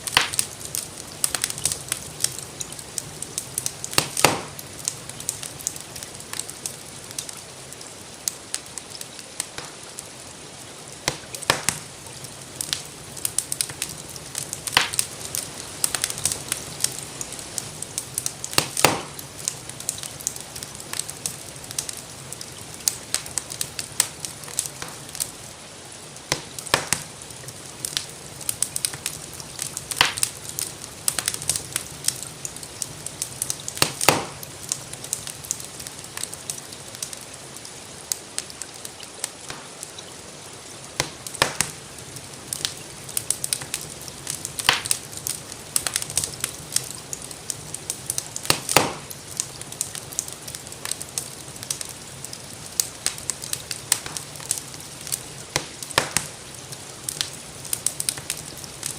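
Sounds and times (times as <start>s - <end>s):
rain hissing: 0.0s - 58.9s
wood fire crackling: 0.0s - 58.9s.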